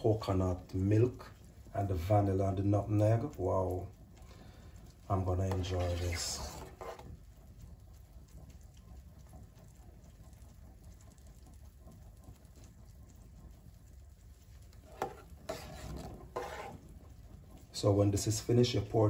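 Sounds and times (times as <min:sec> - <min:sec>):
stirring thick porridge: 0:00.2 - 0:18.3.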